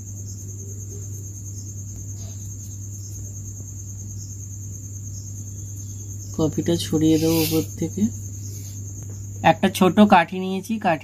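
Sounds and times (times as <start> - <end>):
crickets trilling: 0.0 - 11.0
low steady hum: 0.0 - 11.0.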